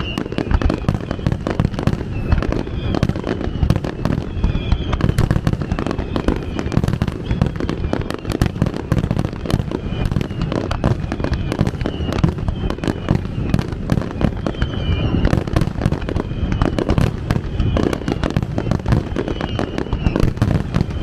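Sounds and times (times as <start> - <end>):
fireworks booming and crackling: 0.0 - 21.0.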